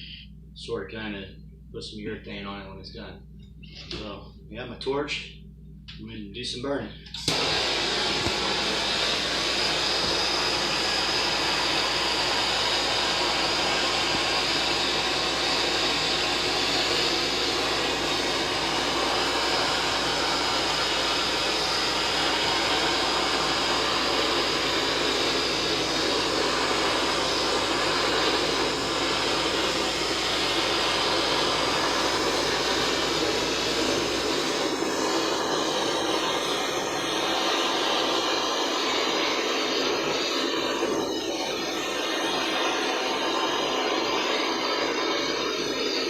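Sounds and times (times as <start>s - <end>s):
torch flame hissing: 7.2s - 46.0s.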